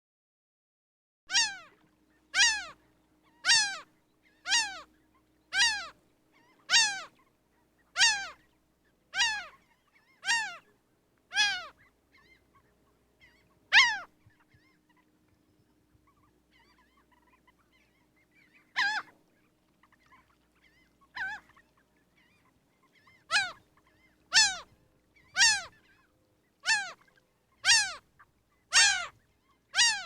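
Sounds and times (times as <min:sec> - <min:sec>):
gull mewing cries: 0:01.3 - 0:04.9, 0:05.5 - 0:07.3, 0:07.9 - 0:08.5, 0:09.1 - 0:10.7, 0:11.3 - 0:15.1, 0:16.1 - 0:28.1, 0:28.7 - 0:30.0.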